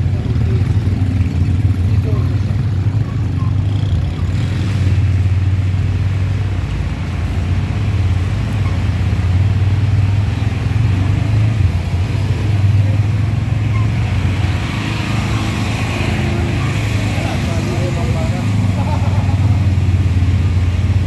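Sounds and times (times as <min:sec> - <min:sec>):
auto-rickshaw engine running: 0:00.0 - 0:21.0.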